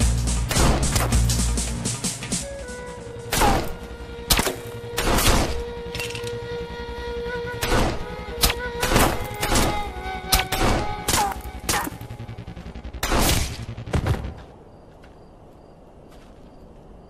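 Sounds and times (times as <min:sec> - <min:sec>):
background music: 0:00.0 - 0:14.4.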